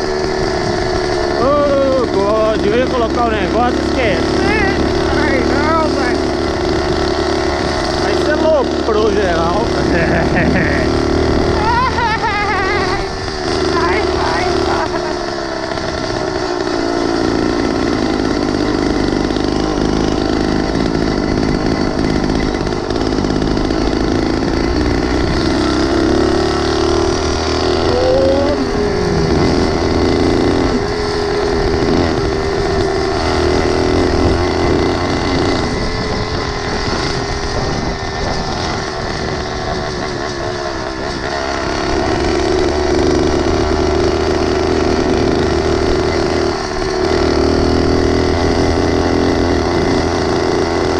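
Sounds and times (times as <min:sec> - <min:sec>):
small engine running: 0:00.0 - 0:50.9.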